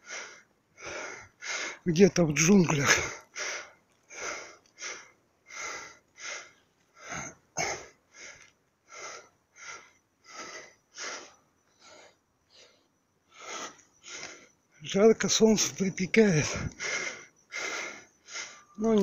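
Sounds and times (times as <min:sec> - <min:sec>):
man breathing hard: 0:00.0 - 0:01.9, 0:02.9 - 0:14.7, 0:16.3 - 0:18.8.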